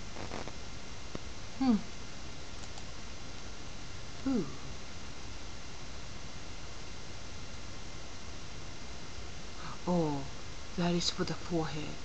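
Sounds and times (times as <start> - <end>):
background hiss: 0.0 - 12.0
low hum: 0.0 - 12.0.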